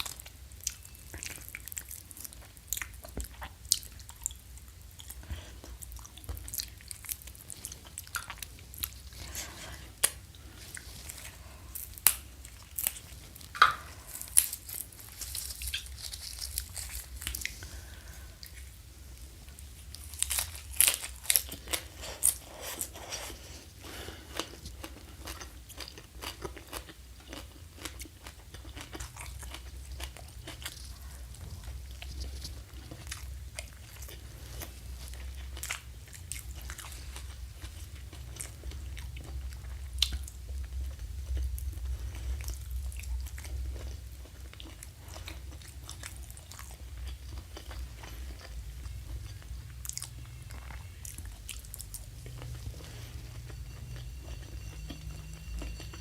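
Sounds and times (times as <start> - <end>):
low steady hum: 0.0 - 56.0
person chewing crunchy food: 0.0 - 56.0.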